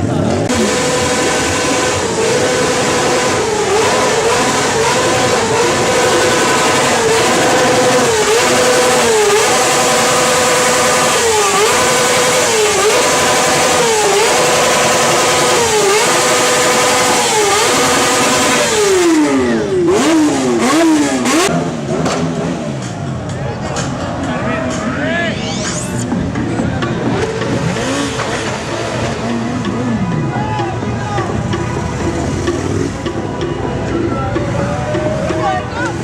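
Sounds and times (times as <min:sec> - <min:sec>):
motorcycle engine revving: 0:00.0 - 0:23.9, 0:25.6 - 0:36.0.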